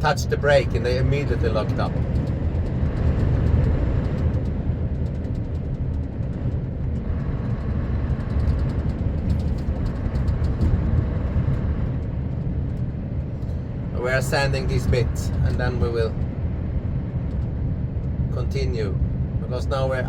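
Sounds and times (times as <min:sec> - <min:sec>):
truck cab low rumble: 0:00.0 - 0:20.0.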